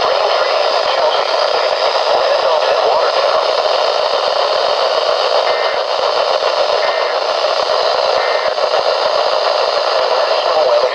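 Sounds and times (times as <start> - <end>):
faint data bursts: 0.0 - 10.9
radio static hiss: 0.0 - 10.9.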